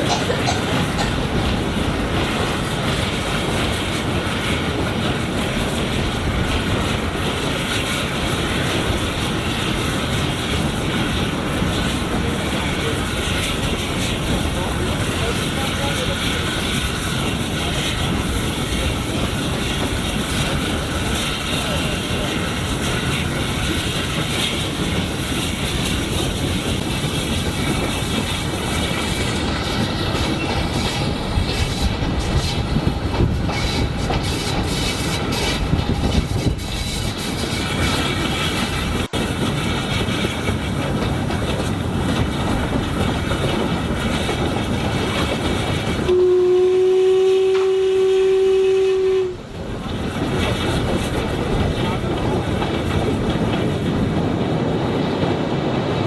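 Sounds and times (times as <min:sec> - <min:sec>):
wheels clattering over rail joints: 0:00.0 - 0:46.1, 0:49.5 - 0:56.0
steam train rumbling: 0:00.0 - 0:56.0.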